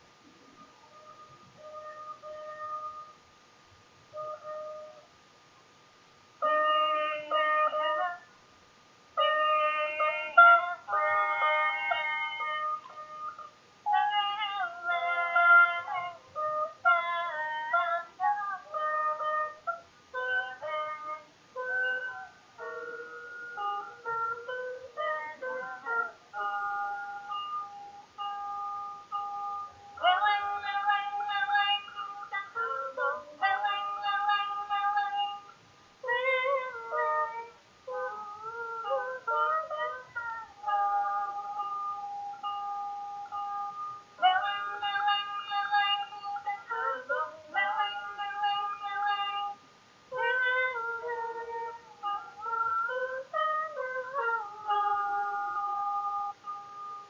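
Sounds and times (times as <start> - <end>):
woman singing high notes: 6.4 - 8.3, 9.2 - 57.0
boat lute: 9.2 - 57.0.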